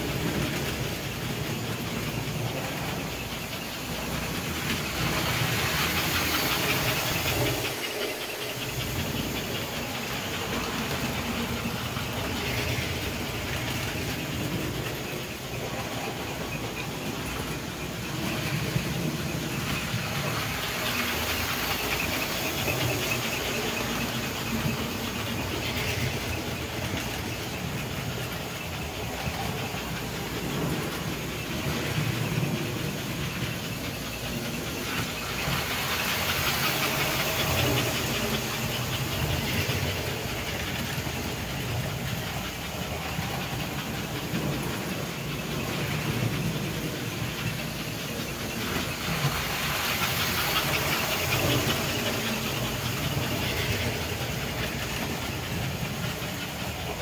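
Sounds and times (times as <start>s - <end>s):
toy train motor hum: 0.0s - 57.0s
wheels running on rails: 0.0s - 57.0s.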